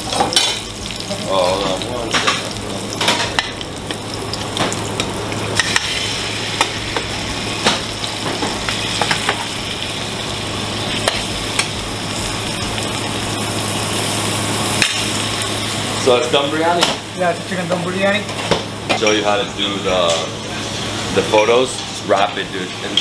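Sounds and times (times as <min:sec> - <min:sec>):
food sizzling in a pan: 0:00.0 - 0:23.0
steady low hum: 0:00.0 - 0:23.0.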